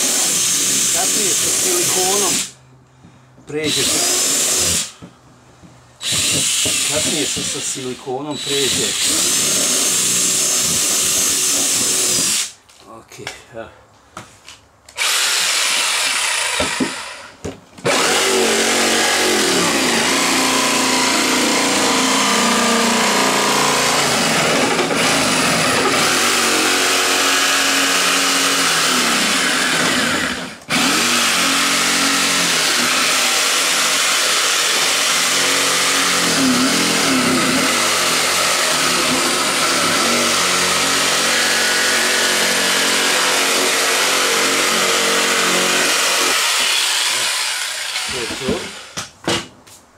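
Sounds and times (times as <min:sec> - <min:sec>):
electric jigsaw cutting plastic: 0:00.0 - 0:02.5, 0:03.7 - 0:05.0, 0:06.0 - 0:07.7, 0:08.4 - 0:12.5, 0:15.0 - 0:49.0.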